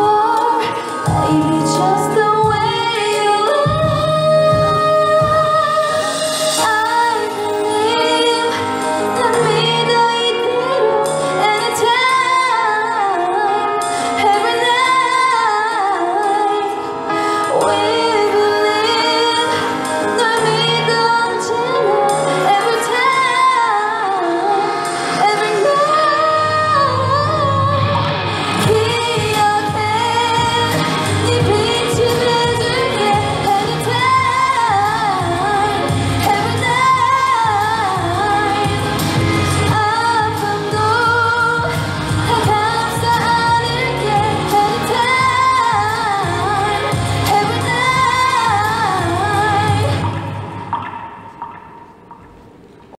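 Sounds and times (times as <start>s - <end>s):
woman singing into microphone: 0.0s - 51.4s
instrumental accompaniment: 0.0s - 52.9s.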